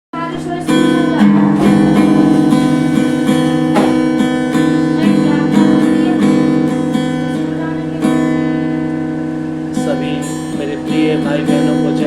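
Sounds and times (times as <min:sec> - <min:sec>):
acoustic guitar strumming chords: 0:00.2 - 0:12.0.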